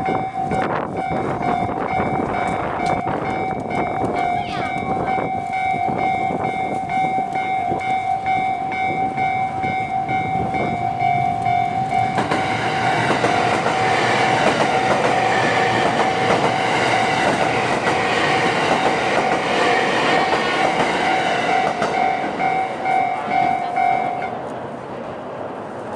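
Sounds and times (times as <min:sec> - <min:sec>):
level-crossing warning bell: 0:00.0 - 0:24.5
train wheels rushing on rail: 0:00.0 - 0:25.9.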